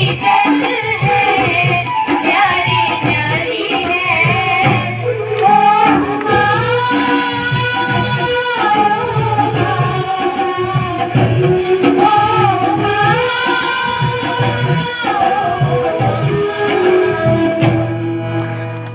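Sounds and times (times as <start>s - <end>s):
song with steady drum beat: 0.0s - 18.9s.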